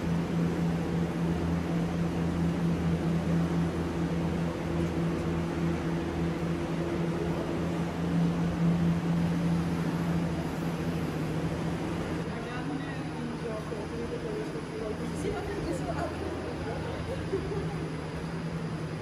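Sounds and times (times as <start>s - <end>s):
higher machine tone: 0.0s - 19.0s
ventilation machinery humming: 0.0s - 19.0s.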